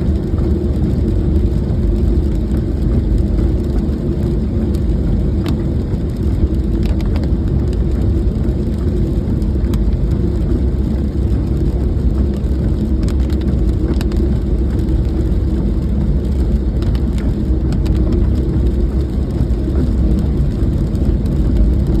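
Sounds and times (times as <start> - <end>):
car driving in rain rumble: 0.0 - 22.0.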